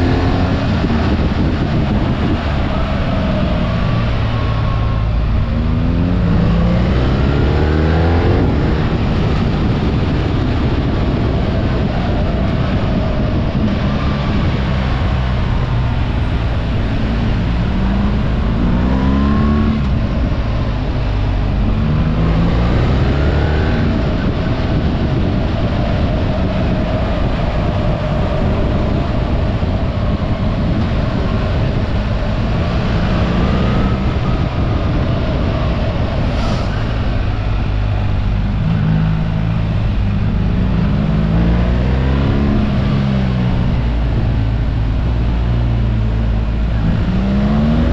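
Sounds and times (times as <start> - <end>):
motorcycle engine accelerating: 0.0 - 47.9
wind and road noise: 0.0 - 47.9.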